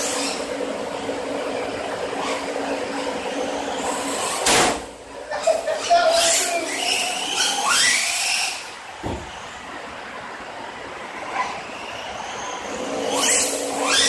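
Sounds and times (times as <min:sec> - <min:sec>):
rc car motor revving: 0:00.0 - 0:09.4, 0:11.3 - 0:14.0.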